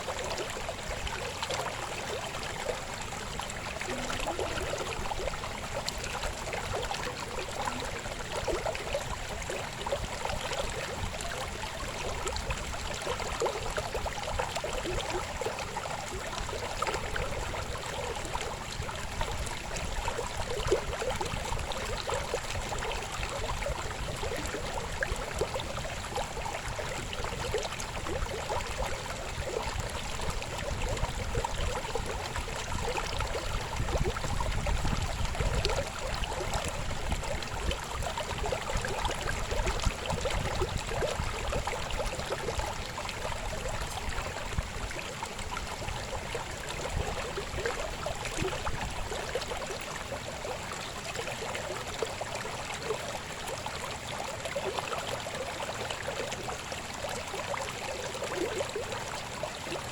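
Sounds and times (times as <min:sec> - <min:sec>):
deep rumble of water: 0:00.0 - 0:59.9
river babbling: 0:00.0 - 0:59.9.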